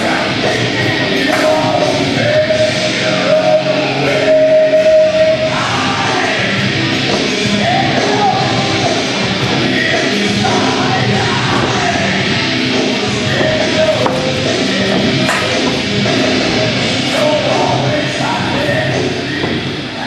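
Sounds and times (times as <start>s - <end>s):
heavy rock music with singing: 0.0s - 20.0s.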